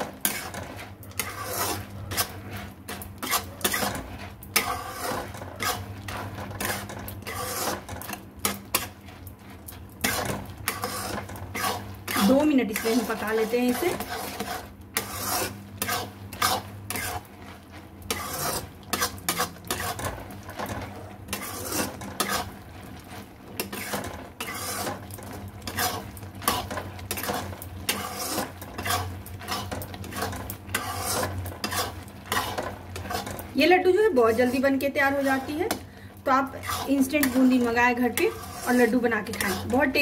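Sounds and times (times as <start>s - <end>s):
plastic spatula scraping a pan: 0.0s - 40.0s.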